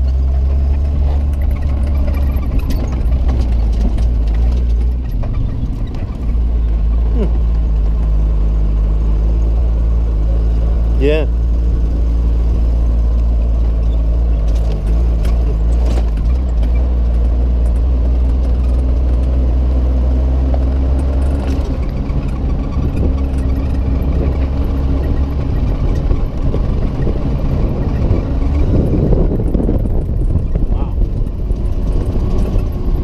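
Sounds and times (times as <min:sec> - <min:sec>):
truck engine humming: 0:00.0 - 0:33.0
vehicle moving over rough ground: 0:00.0 - 0:33.0.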